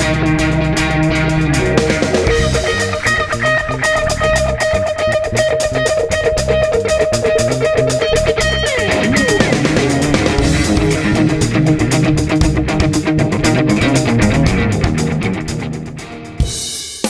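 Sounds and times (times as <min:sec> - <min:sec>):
electric guitar music: 0:00.0 - 0:16.9
steady drum beat: 0:00.0 - 0:17.0.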